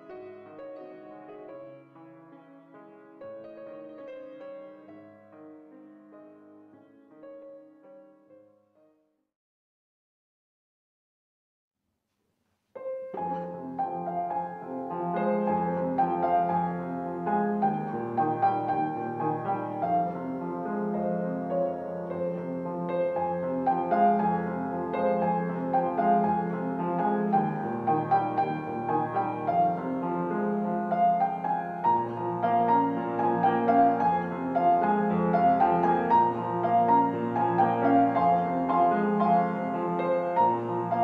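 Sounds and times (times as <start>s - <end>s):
piano music: 0.0s - 8.9s, 12.8s - 41.0s.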